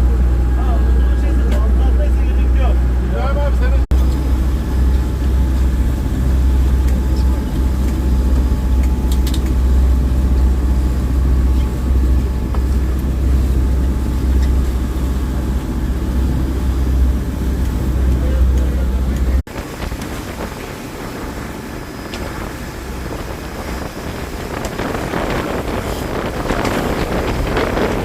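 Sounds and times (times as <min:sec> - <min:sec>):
boat engine rumbling: 0:00.0 - 0:28.0.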